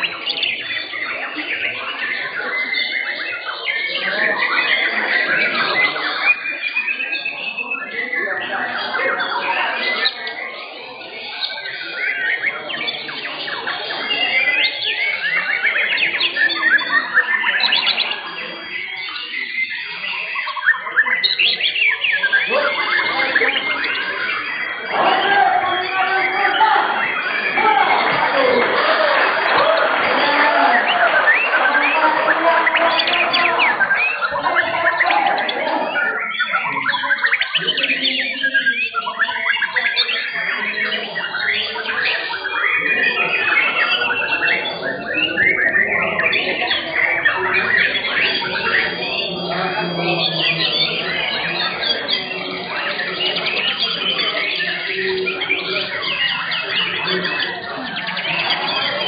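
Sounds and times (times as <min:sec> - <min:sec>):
birds singing whistles and trills: 0:00.0 - 0:59.0.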